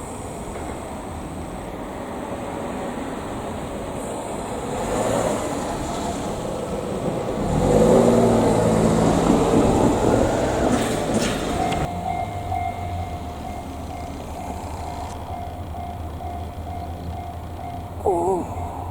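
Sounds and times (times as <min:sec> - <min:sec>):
diesel railcar engine: 0:00.0 - 0:18.9.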